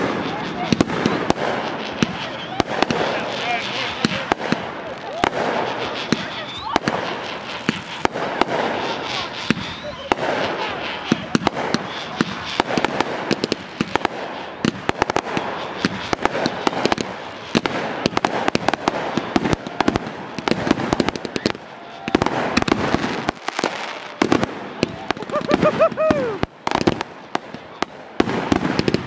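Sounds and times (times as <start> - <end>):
fireworks popping and crackling: 0.0 - 29.0.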